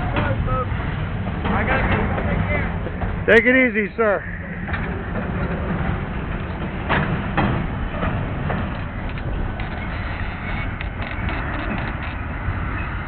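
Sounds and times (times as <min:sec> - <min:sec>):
wheels knocking over rail joints: 0:00.0 - 0:04.0, 0:04.6 - 0:13.0
train rumbling on track: 0:00.0 - 0:13.0.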